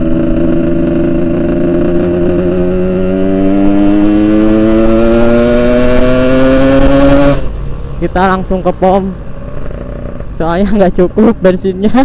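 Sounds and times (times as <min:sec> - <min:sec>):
motorcycle engine accelerating: 0:00.0 - 0:07.6, 0:08.6 - 0:10.9.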